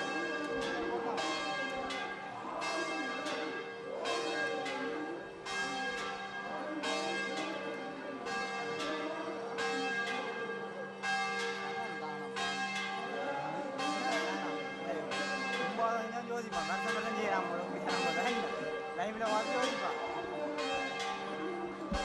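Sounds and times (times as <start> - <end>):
large temple bell ringing: 0.0 - 22.0
murmur of crowd voices: 0.0 - 22.0.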